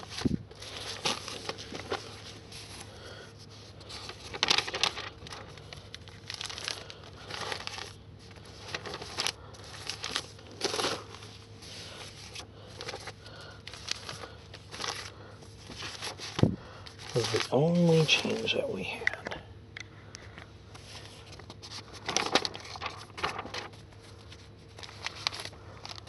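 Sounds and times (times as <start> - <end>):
newspapers rustling and crinkling: 0.0 - 19.0, 20.7 - 26.0.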